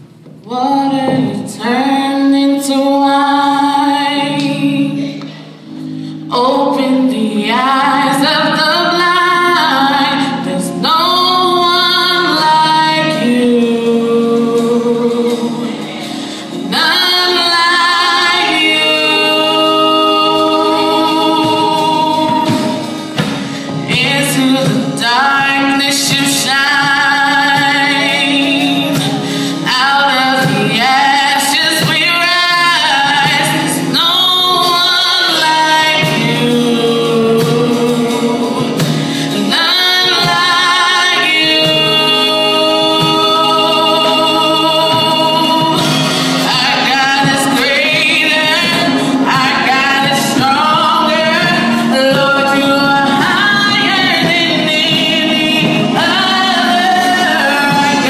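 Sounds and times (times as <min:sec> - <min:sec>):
woman singing gospel: 0:00.4 - 0:58.0.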